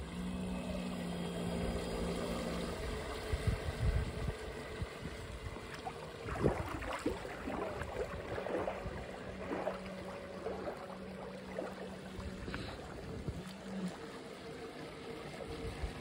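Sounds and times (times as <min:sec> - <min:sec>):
boat motor hum: 0:00.0 - 0:16.0
water splashing: 0:00.5 - 0:16.0.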